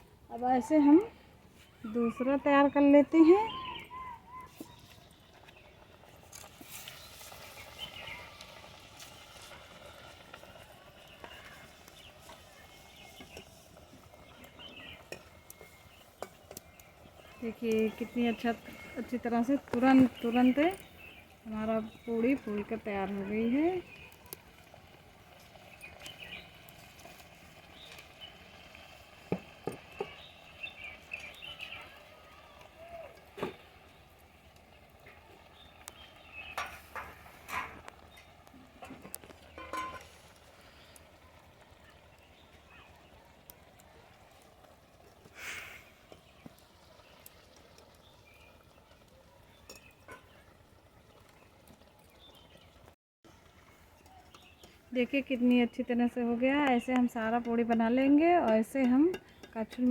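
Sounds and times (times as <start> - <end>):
food sizzling in hot oil: 2.2 - 51.7.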